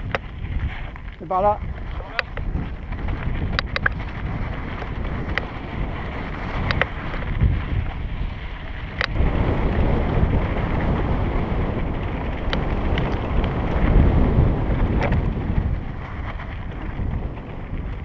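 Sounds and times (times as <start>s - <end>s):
bike rattling over stones: 0.0s - 18.0s
bike tyres rumbling on dirt trail: 0.0s - 18.0s
wind buffeting microphone: 0.0s - 18.0s.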